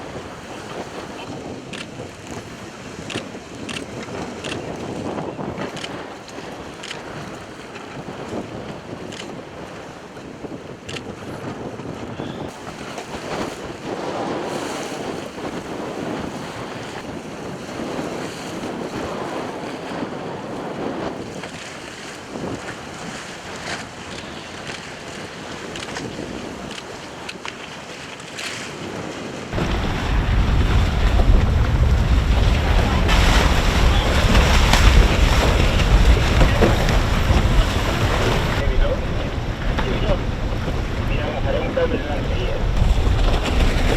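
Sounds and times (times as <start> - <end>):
sea water splashing: 0.0 - 43.9
wind buffeting microphone: 0.0 - 43.9.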